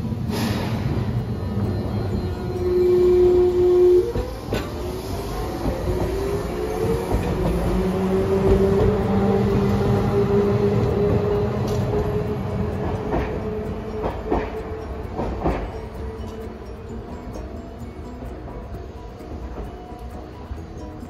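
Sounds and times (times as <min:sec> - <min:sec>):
tram motors whining: 0:00.0 - 0:21.0
wheels clacking over rail joints: 0:02.7 - 0:21.0.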